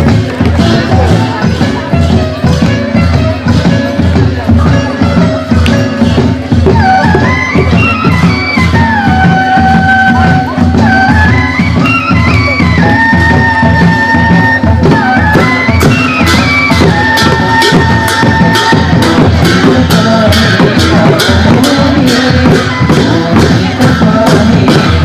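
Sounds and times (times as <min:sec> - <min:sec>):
quick steady drum beat: 0:00.0 - 0:25.0.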